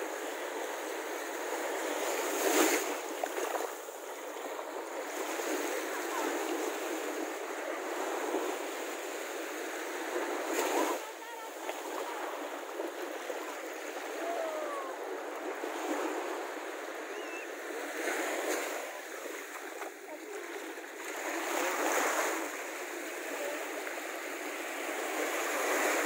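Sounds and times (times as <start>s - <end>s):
small waves washing ashore: 0.0s - 26.0s.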